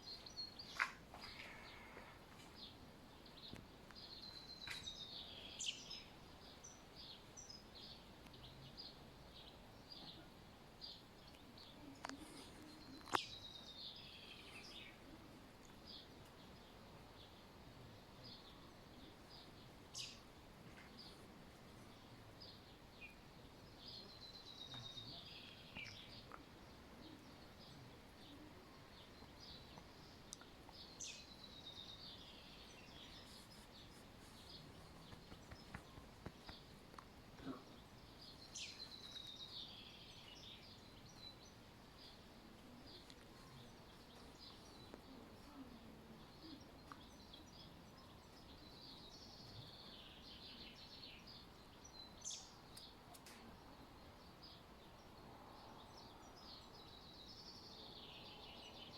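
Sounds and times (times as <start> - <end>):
faint birdsong chirps: 0.0 - 58.9.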